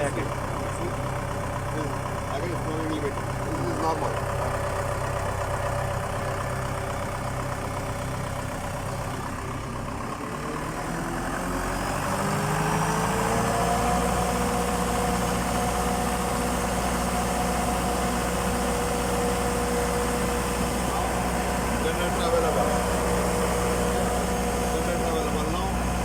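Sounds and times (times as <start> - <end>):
diesel generator running: 0.0 - 26.0.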